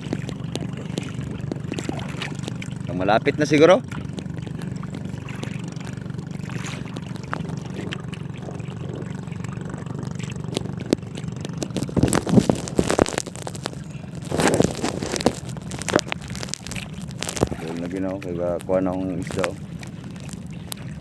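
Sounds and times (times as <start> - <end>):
boat engine running: 0.0 - 21.0
water splashing: 0.0 - 21.0.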